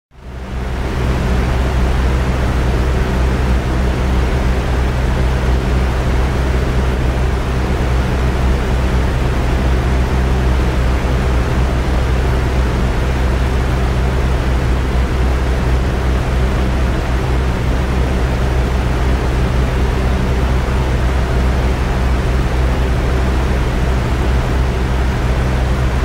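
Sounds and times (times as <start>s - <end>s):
heavy low rumble: 0.2s - 26.0s.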